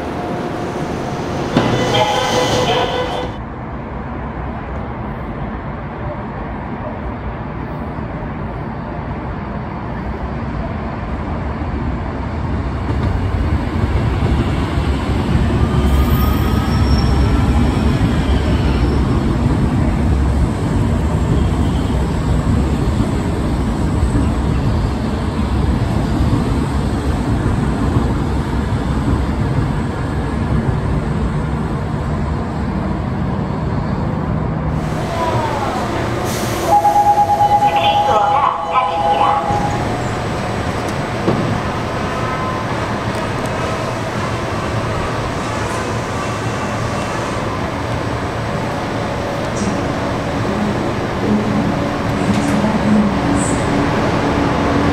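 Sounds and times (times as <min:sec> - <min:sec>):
train wheels rumbling on rail: 0:00.0 - 0:08.5, 0:09.1 - 0:54.9.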